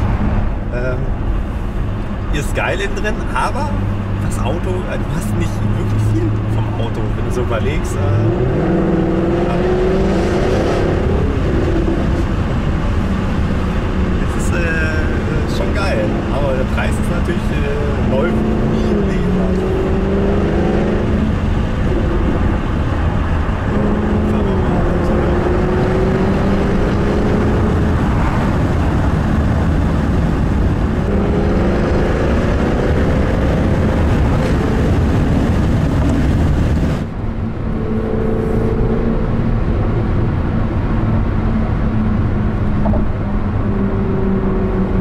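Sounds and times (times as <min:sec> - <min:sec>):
car engine running: 0:00.0 - 0:45.0
road and wind noise: 0:00.0 - 0:45.0.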